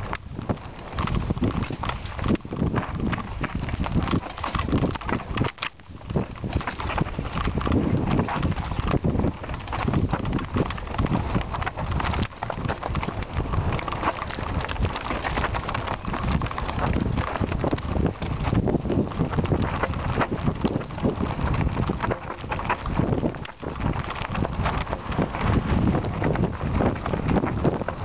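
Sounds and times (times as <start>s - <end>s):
bike clattering: 0.0s - 28.0s
tyres crunching over stones: 0.0s - 28.0s.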